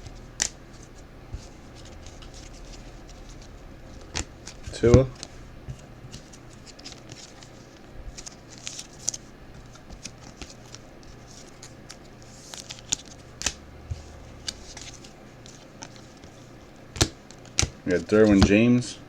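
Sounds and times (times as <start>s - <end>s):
trading cards rustling and clicking: 0.4s - 18.7s.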